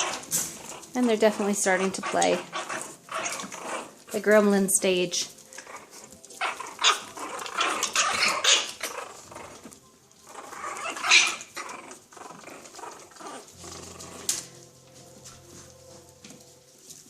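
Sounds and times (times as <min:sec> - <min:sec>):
puppies growling and yapping: 0:00.0 - 0:17.0.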